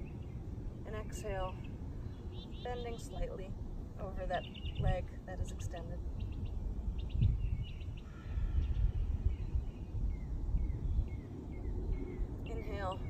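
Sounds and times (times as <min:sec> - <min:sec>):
bird chirping: 0:00.0 - 0:03.3, 0:04.2 - 0:13.0
wind rumble on microphone: 0:00.0 - 0:13.0.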